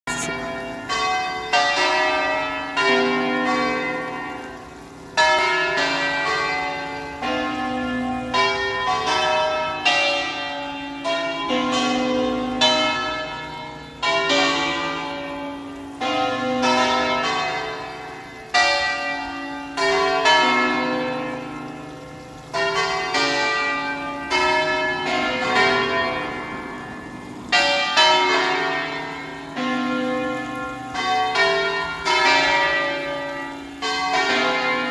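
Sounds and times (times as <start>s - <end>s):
church bells ringing: 0.1s - 34.9s.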